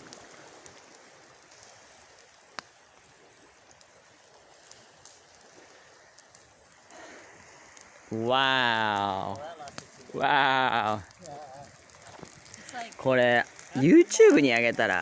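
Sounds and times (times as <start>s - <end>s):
campfire hissing: 0.0s - 15.0s
fire crackle: 0.0s - 15.0s.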